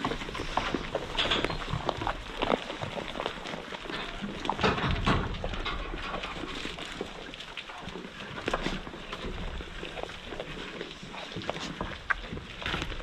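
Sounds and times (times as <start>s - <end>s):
goats crunching grain: 0.0s - 13.0s
hooves shuffling: 0.0s - 13.0s.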